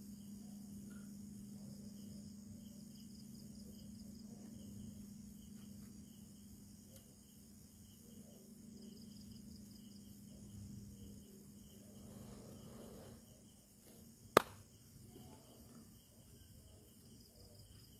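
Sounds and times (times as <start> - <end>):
crickets chirping: 0.0 - 17.9.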